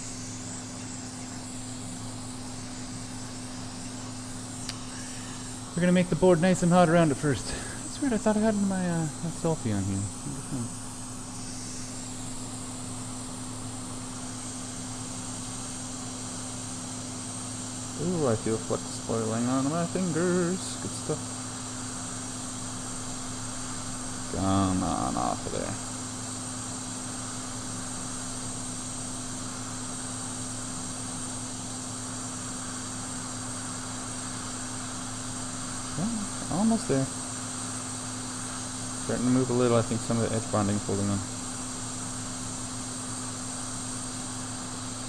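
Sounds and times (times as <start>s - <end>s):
hot air blower hissing: 0.0s - 45.0s
low even hum: 0.0s - 45.0s.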